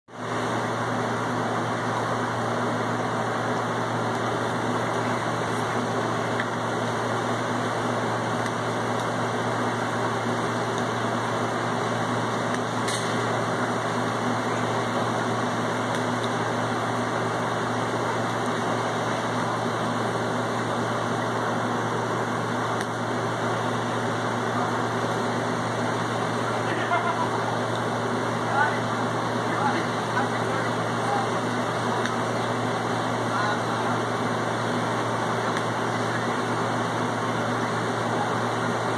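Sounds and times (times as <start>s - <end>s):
mechanical hum: 0.1s - 38.9s.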